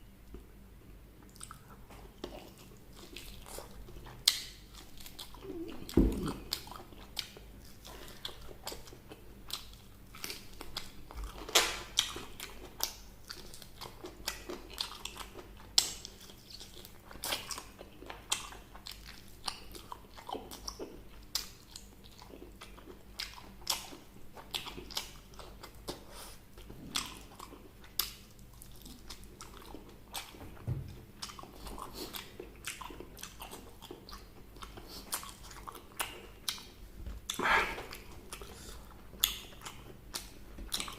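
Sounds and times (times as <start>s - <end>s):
chewing crispy fried chicken: 1.2s - 40.9s.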